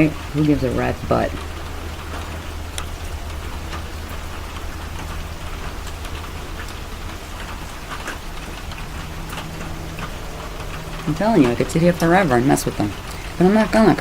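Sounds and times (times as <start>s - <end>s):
low steady hum: 0.0s - 14.0s
steady rain falling: 0.0s - 14.0s.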